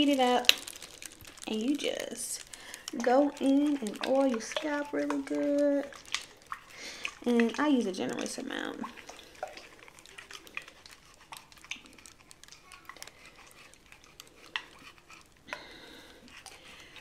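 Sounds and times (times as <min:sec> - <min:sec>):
faint rustling of hair: 0:00.0 - 0:17.0.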